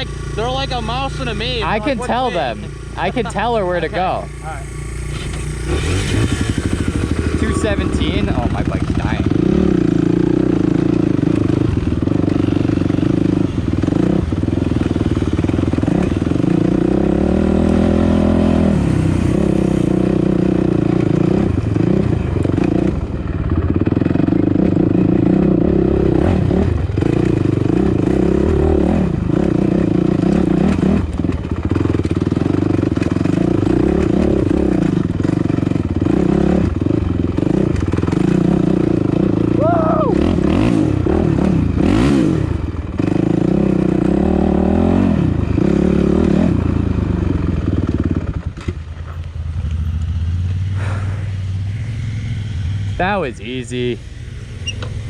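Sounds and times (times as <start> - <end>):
dirt bike engine revving: 0.0 - 48.7, 49.9 - 55.0.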